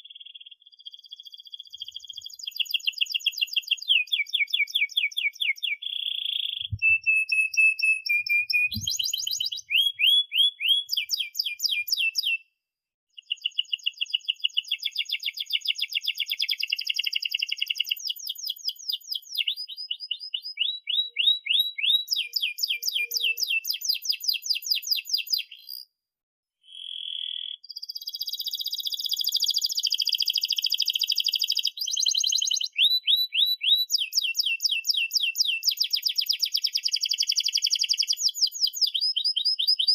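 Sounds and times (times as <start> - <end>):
canary singing chirps and trills: 0.0 - 12.5, 13.1 - 25.9, 26.6 - 39.9.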